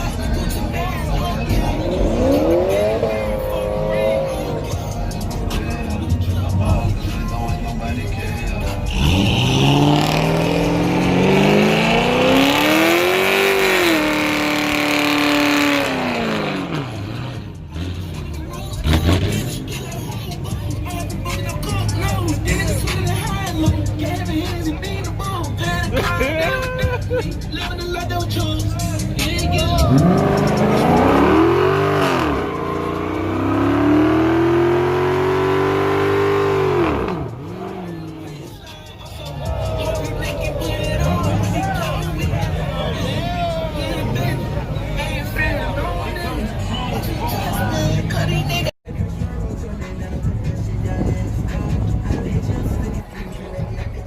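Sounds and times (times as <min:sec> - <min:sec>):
car engine revving: 0:00.0 - 0:26.3, 0:27.1 - 0:48.7.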